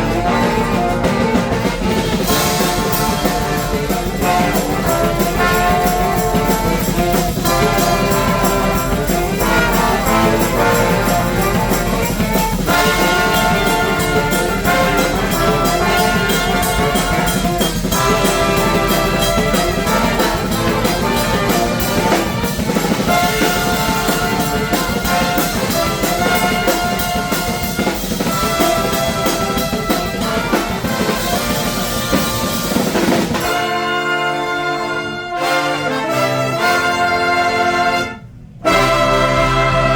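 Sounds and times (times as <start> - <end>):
brass band playing: 0.0 - 39.9
drums: 0.0 - 39.9.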